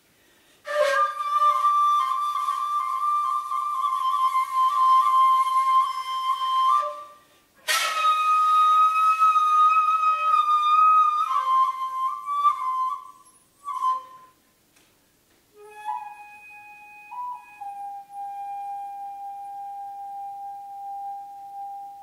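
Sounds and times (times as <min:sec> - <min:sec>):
flute playing held notes: 0:00.7 - 0:14.5, 0:15.5 - 0:22.0.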